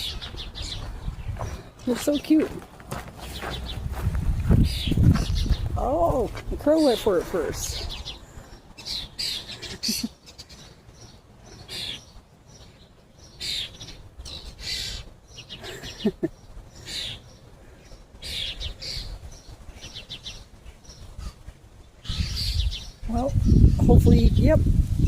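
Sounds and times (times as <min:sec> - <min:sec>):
starlings chirping: 0:00.0 - 0:24.6.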